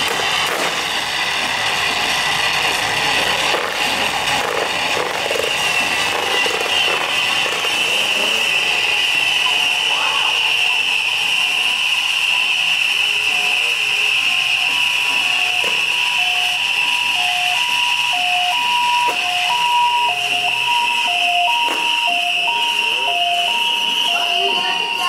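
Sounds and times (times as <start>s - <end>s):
fireworks crackling and popping: 0.0s - 1.5s, 2.4s - 22.0s
spark fountains hissing: 0.0s - 21.1s.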